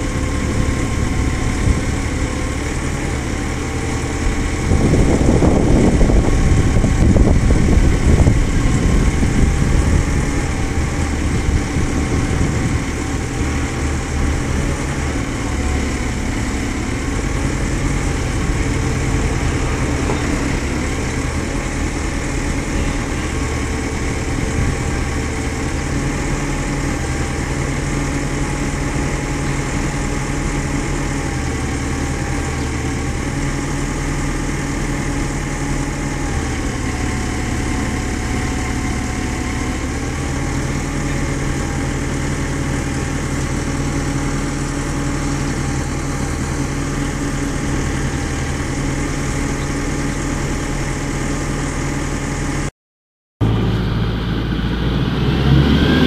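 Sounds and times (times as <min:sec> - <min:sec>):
diesel engine idling: 0:00.0 - 0:52.7, 0:53.4 - 0:56.0.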